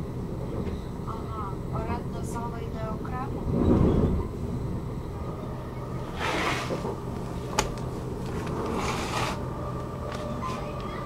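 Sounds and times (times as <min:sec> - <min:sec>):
train carriage rumble and hum: 0:00.0 - 0:11.0.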